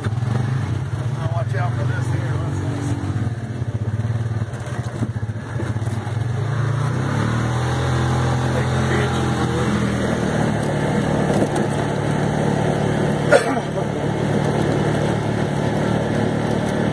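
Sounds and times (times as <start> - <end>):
utility vehicle engine running: 0.0 - 16.9.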